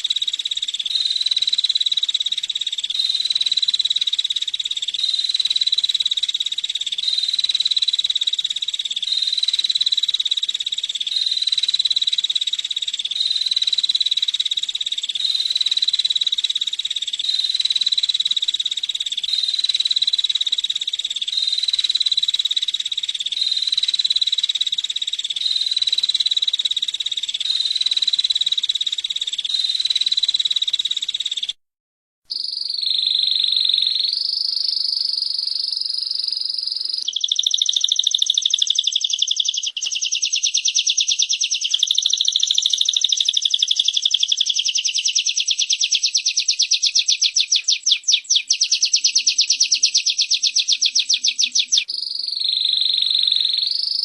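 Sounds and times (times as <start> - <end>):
songbirds buzzy trills: 0.0 - 31.5, 32.3 - 54.0.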